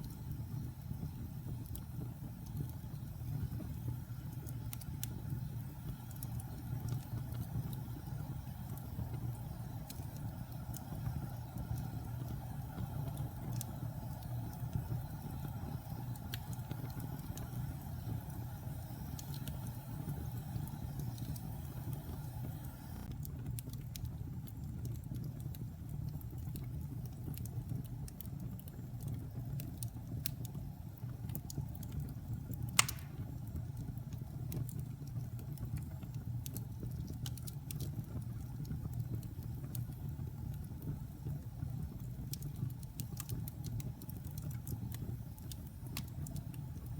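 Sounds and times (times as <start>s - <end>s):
fireplace fire crackling: 0.0s - 46.9s.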